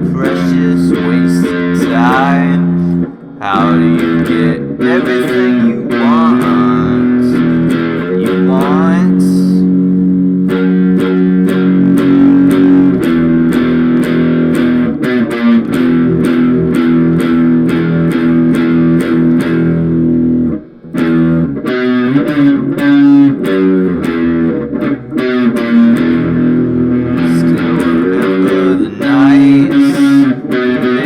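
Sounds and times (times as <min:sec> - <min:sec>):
bass guitar: 0:00.0 - 0:31.0
electric guitar: 0:00.0 - 0:31.0.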